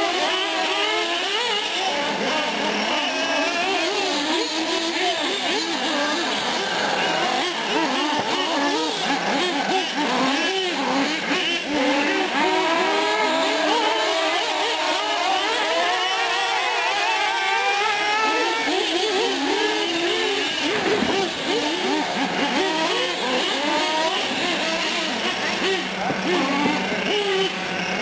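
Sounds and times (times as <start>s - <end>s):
rc truck engines revving: 0.0s - 28.0s.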